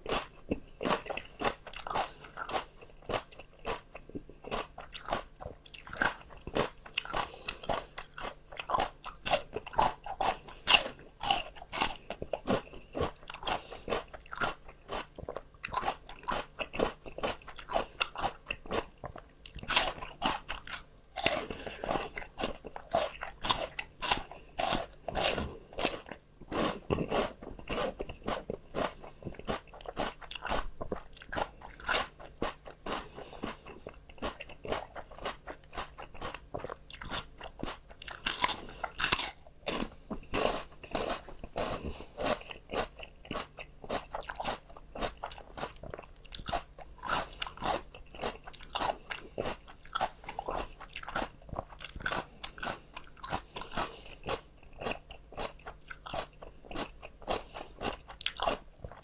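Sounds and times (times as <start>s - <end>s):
crunching raw vegetables: 0.0s - 59.0s.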